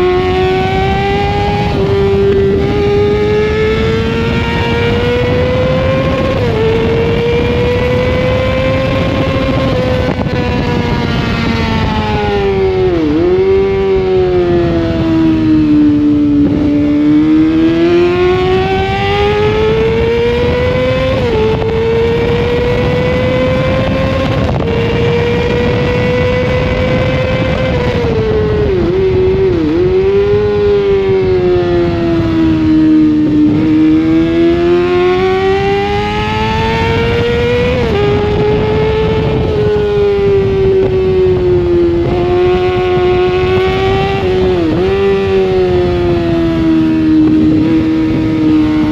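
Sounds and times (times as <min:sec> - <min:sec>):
motorbike engine revving through gears: 0:00.0 - 0:48.9
wind and road noise: 0:00.0 - 0:48.9.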